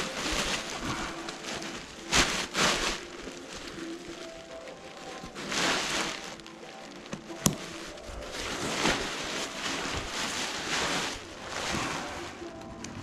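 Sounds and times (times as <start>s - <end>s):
nylon fabric rustling: 0.0s - 13.0s.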